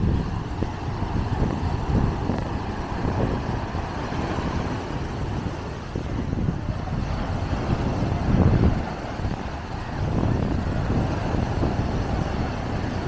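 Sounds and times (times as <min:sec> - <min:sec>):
surf breaking on a beach: 0:00.0 - 0:13.0
wind buffeting microphone: 0:00.0 - 0:13.0.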